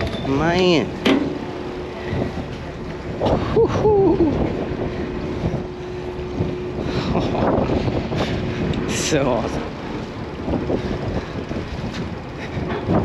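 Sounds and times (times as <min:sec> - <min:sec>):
boat engine hum: 0:00.0 - 0:13.0
wind on microphone: 0:00.0 - 0:13.0.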